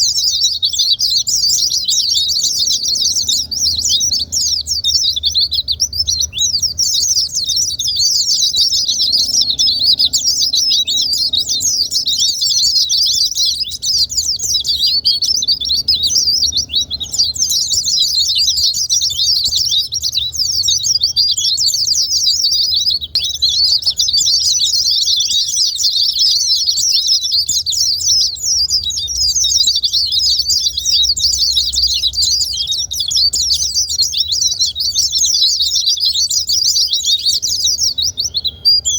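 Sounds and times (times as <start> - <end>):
birds twittering: 0.0 - 38.9.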